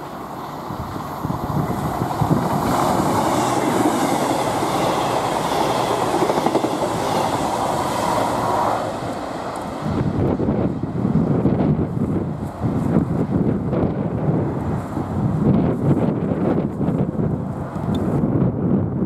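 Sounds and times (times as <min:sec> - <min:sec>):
train passing at speed: 0:00.0 - 0:18.2.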